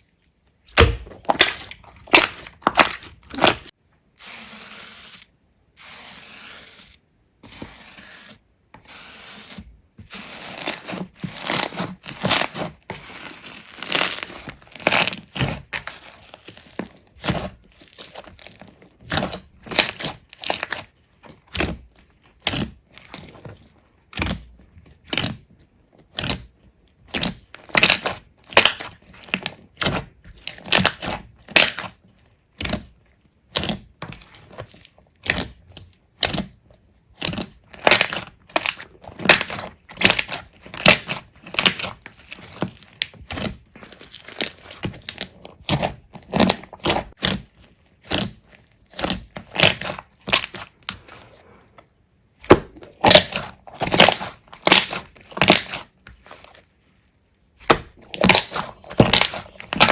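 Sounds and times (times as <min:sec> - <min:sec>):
slime squishing and crackling: 0:00.6 - 0:03.8, 0:09.2 - 0:51.6, 0:52.4 - 0:56.9, 0:57.5 - 0:59.9.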